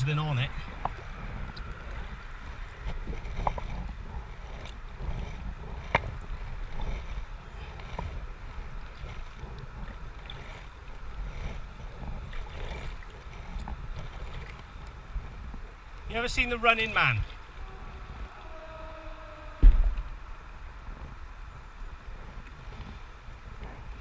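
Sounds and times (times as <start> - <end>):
steady low rumble: 0.0 - 24.0
kayak paddles splashing in water: 0.1 - 24.0.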